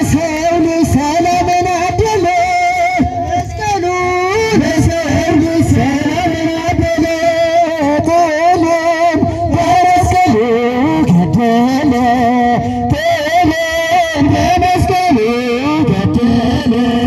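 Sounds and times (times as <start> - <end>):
song with singing: 0.0 - 17.0.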